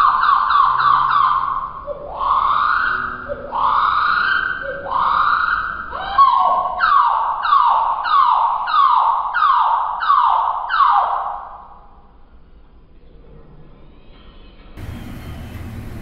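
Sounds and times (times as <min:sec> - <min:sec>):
slowed down canary song: 0:00.0 - 0:16.0.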